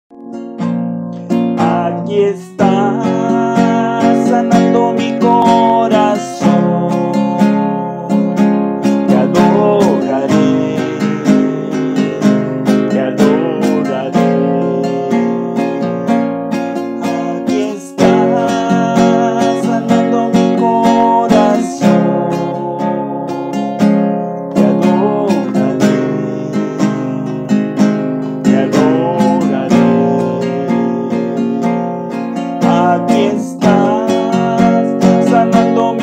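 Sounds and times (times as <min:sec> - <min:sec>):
classical guitar strumming chords: 0:00.1 - 0:36.0.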